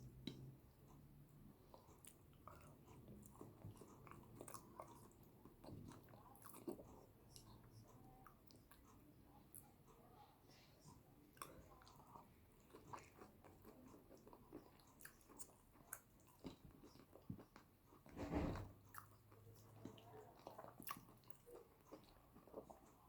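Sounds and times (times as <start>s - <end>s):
chewing and mouth clicks: 1.5s - 10.0s, 10.8s - 18.1s, 18.8s - 23.0s.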